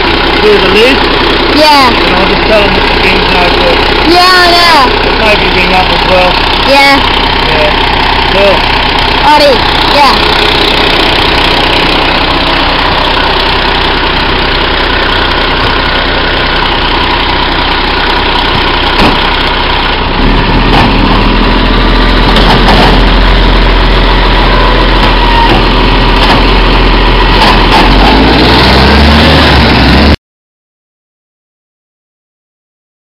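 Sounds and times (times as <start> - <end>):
garbage truck engine idling: 0.0 - 28.4.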